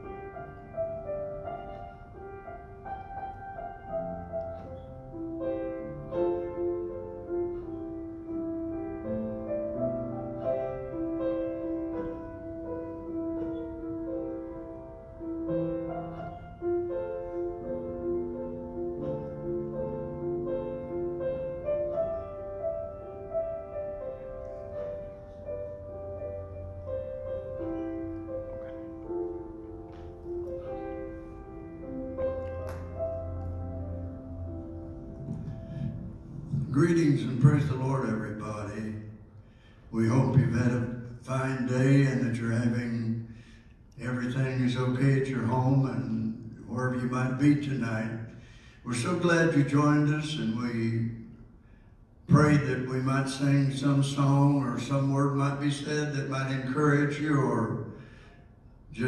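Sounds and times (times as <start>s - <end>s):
slow piano melody: 0.0s - 59.0s.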